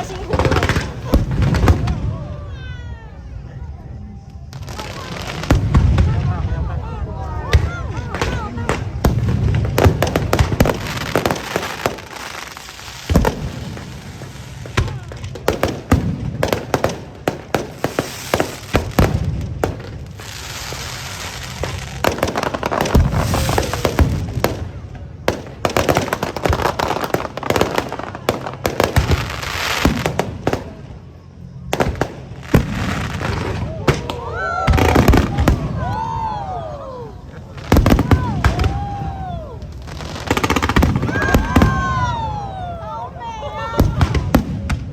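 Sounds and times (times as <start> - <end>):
fireworks bangs: 0.0 - 44.9
fireworks crackling: 0.0 - 44.9.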